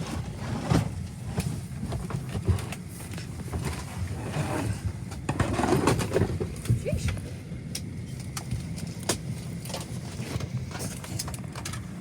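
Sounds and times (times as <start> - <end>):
steady low cabin hum: 0.0 - 12.0.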